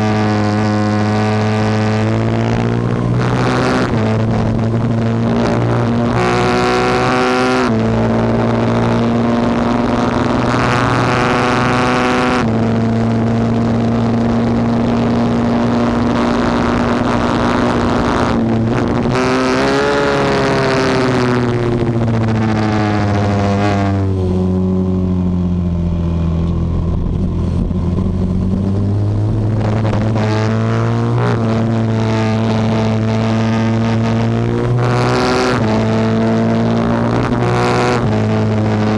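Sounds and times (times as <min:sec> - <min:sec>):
racing motorcycle engine running hard: 0:00.0 - 0:38.9.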